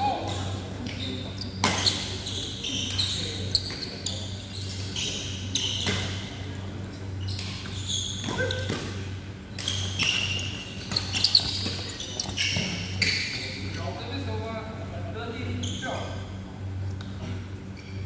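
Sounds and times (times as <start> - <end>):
court shoes squeaking: 0.0 - 14.6, 15.3 - 18.0.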